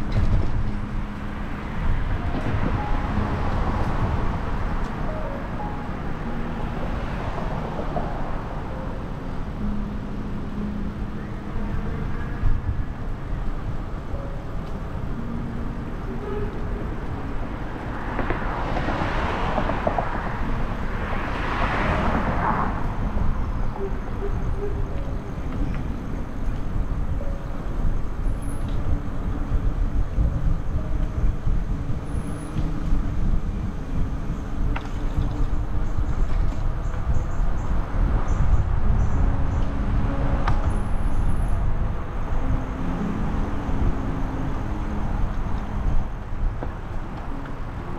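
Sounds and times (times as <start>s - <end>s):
traffic rumble: 0.0s - 47.9s
vehicles passing: 0.0s - 47.9s.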